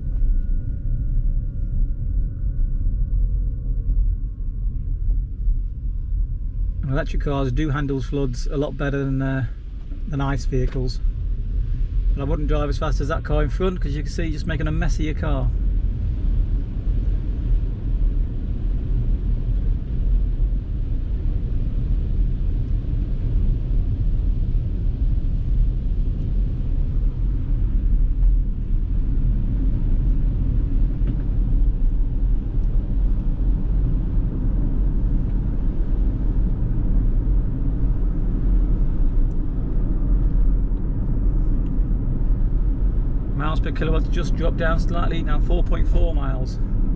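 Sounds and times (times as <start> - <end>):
road and tyre noise in car: 0.0 - 46.9.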